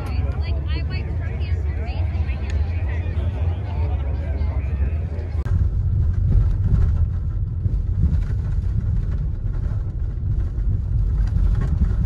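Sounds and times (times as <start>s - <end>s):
off-road vehicle rumbling over dirt: 0.0s - 12.0s.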